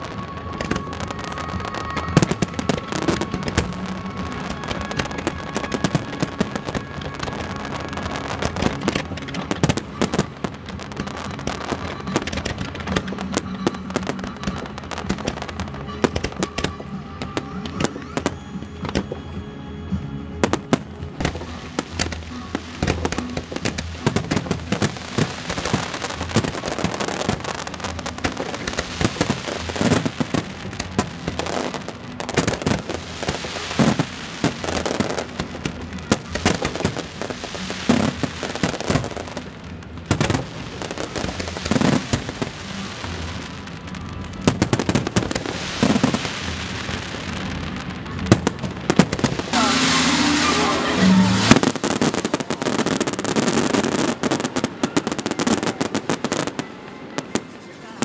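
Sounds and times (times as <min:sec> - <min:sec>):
fireworks crackling: 0:00.0 - 0:58.0
music: 0:00.0 - 0:58.0.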